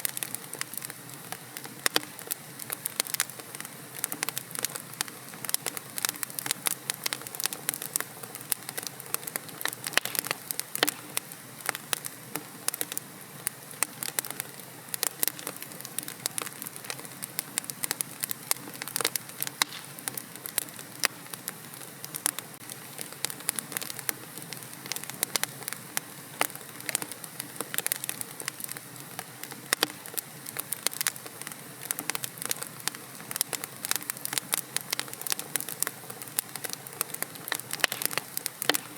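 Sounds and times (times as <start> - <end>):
hiss of burning: 0.0 - 38.9
wood fire crackling and popping: 0.0 - 38.9.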